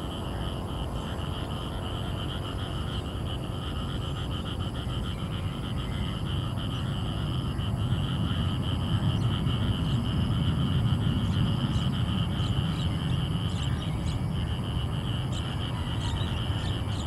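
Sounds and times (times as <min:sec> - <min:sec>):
distant jet engines rumbling: 0:00.0 - 0:17.0
insects buzzing: 0:00.0 - 0:17.0.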